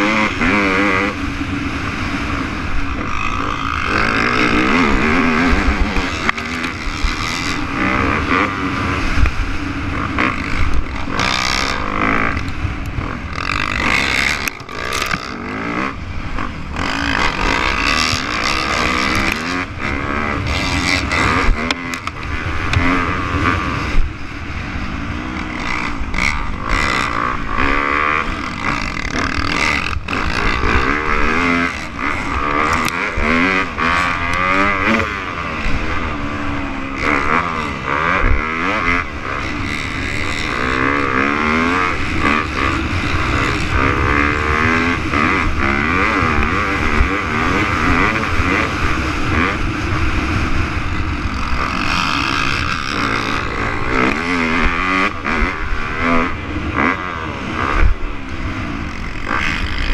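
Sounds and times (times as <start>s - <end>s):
dirt bike engine revving: 0.0s - 59.9s
wind noise: 0.0s - 59.9s.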